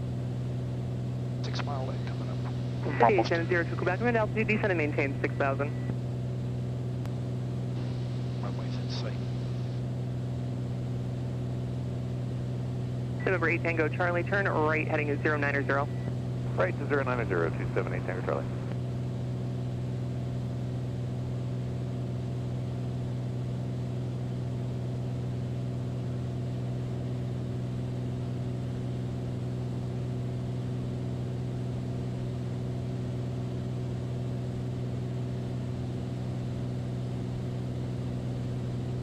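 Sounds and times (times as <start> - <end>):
propeller plane engine droning: 0.0 - 39.0.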